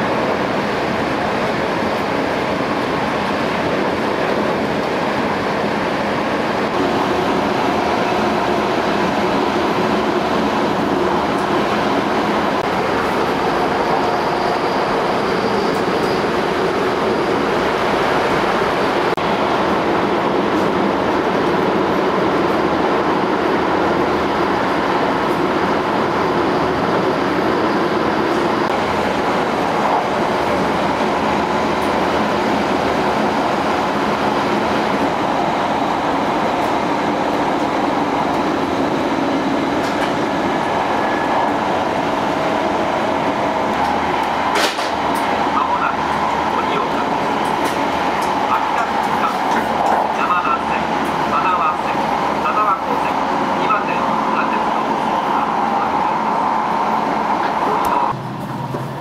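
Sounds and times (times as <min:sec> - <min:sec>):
high-speed train running noise: 0:00.0 - 0:59.0.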